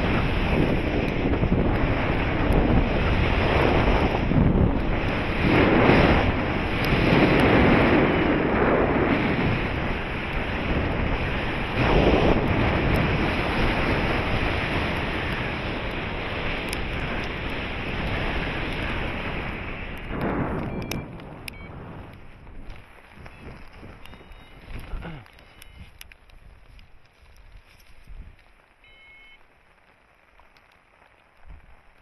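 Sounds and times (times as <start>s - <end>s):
wind buffeting microphone: 0.0s - 29.3s.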